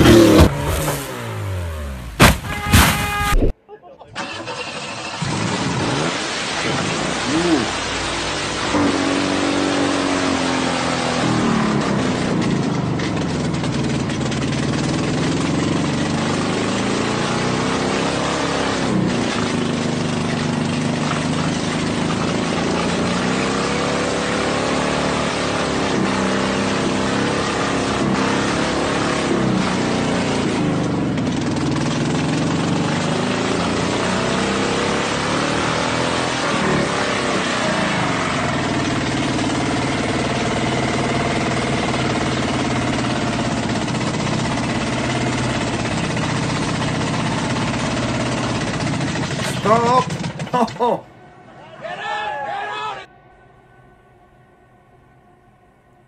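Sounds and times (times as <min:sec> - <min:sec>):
vehicle engine revving: 0:00.0 - 0:03.6, 0:04.2 - 0:51.4.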